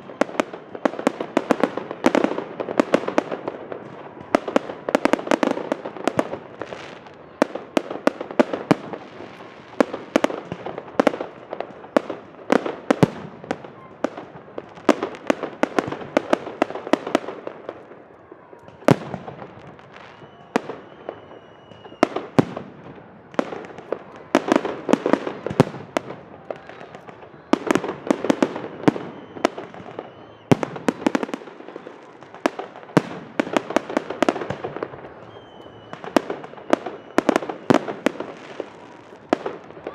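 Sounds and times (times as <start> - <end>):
firework bangs and crackling: 0.0 - 39.9.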